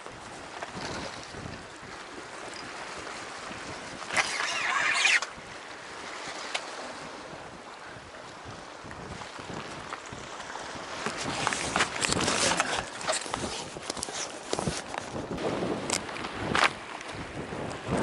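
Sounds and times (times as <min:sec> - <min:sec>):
sea surf washing against rocks: 0:00.0 - 0:18.0
wind buffeting microphone: 0:00.0 - 0:18.0.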